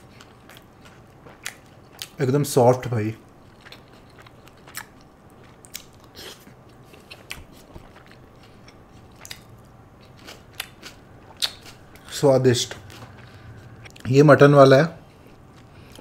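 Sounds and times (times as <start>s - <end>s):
person chewing with wet clicks: 0.0s - 2.2s, 3.2s - 14.1s, 15.2s - 16.0s.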